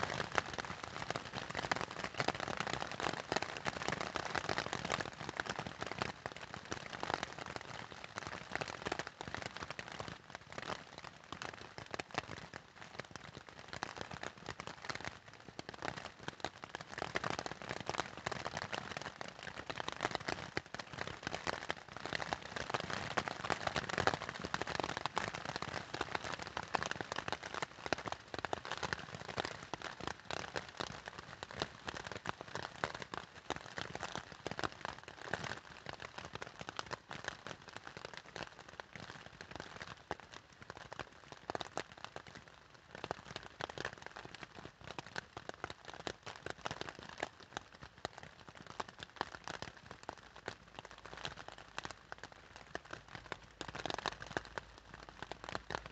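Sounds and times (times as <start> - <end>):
rain drumming on tent fabric: 0.0 - 55.9.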